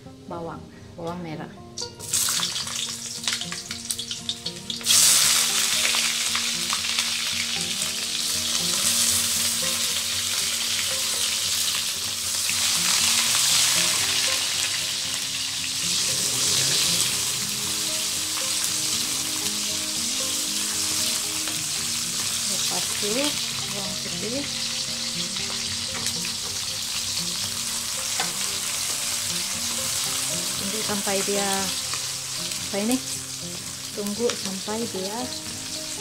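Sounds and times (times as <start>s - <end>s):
onions sizzling in hot oil: 1.8s - 36.0s.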